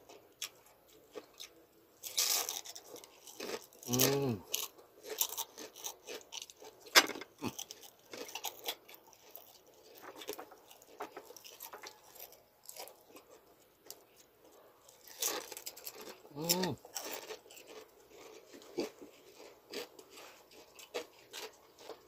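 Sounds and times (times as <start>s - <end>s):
crunching crispy pork rind: 0.1s - 22.0s.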